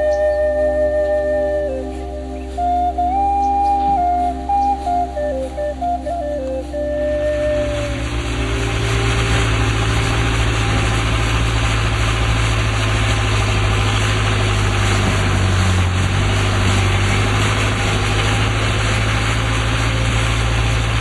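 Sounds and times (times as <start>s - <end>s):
boat engine droning: 0.0s - 21.0s
rush of wind and water: 0.0s - 21.0s.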